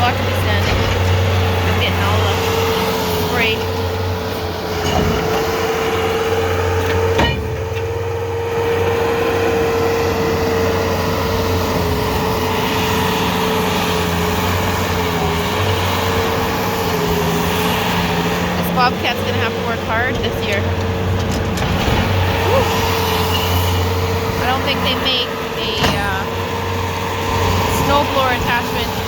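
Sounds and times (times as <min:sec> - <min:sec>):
loader engine running under load: 0:00.0 - 0:29.0.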